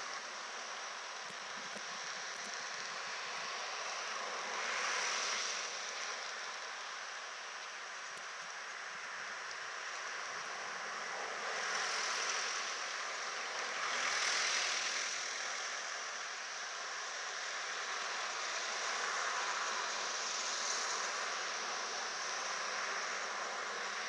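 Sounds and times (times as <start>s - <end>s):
steady outdoor rushing noise: 0.0s - 24.0s.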